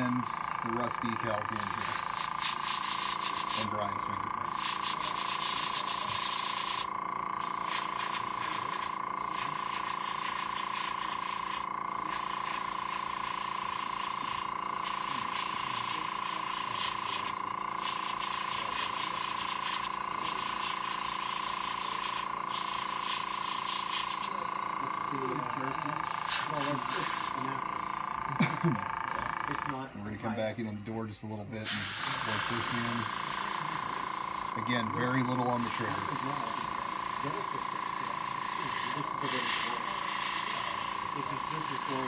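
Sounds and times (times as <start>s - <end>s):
airbrush hissing: 0.0s - 28.2s, 31.6s - 42.0s
steady hum: 0.0s - 42.0s.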